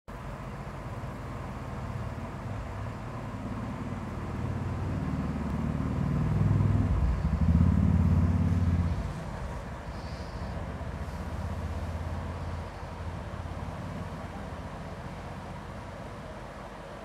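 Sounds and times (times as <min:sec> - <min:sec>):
vehicle engine pulsing rumble: 0:00.1 - 0:17.0.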